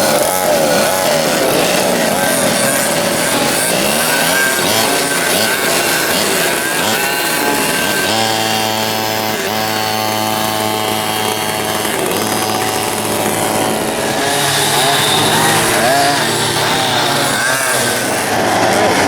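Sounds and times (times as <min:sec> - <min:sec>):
kart engines running: 0:00.0 - 0:19.0.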